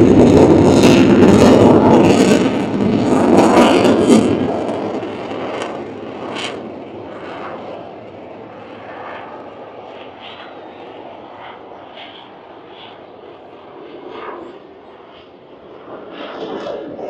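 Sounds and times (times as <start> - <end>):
airplane engine: 0.0 - 17.0.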